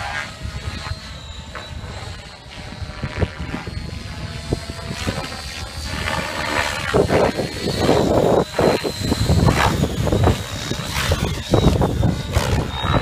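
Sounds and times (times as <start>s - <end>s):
model helicopter high whine: 0.0s - 13.0s
wind buffeting microphone: 1.8s - 13.0s.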